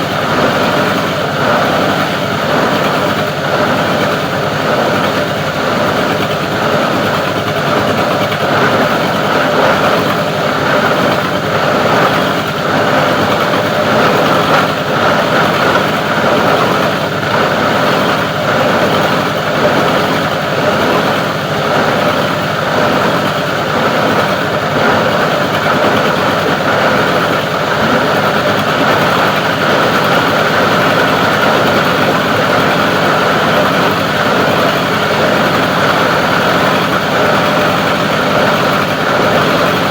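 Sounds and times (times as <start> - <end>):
plastic grinding machine running: 0.0 - 39.9.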